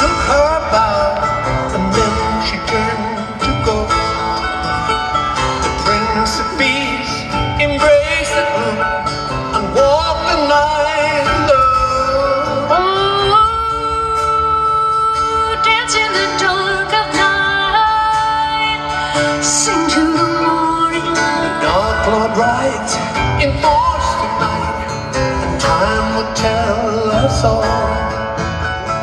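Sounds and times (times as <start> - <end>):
live band through pa: 0.0 - 29.0
person singing long notes: 0.0 - 29.0
strummed strings: 0.0 - 29.0.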